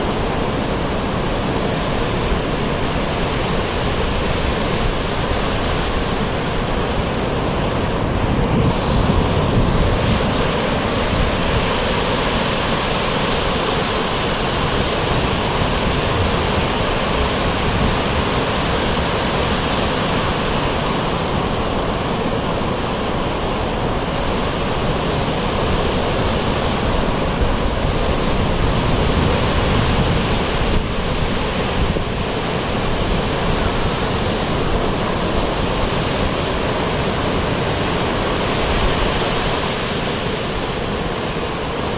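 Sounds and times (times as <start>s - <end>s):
sea surf breaking on beach: 0.0s - 41.9s
wind rumbling on microphone: 0.0s - 41.9s.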